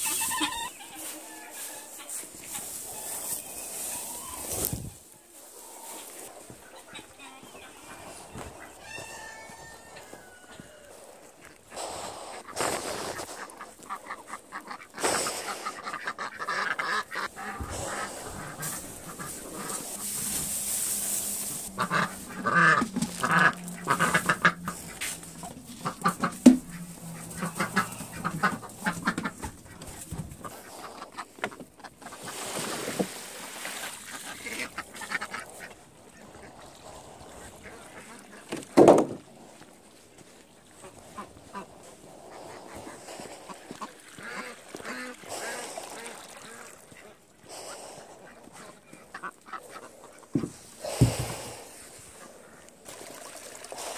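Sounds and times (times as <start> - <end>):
ducks and geese quacking and honking: 0.0 - 33.0, 33.7 - 38.9, 39.6 - 52.8.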